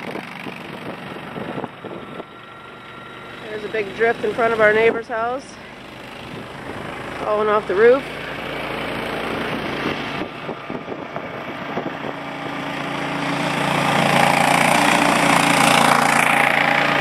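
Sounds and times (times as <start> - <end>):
snowplow engine running: 0.0 - 17.0.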